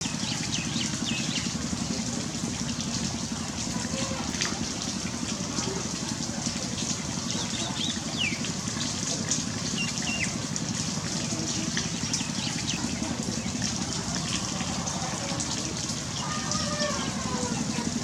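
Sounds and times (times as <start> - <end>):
steady rain with drips: 0.0 - 18.0.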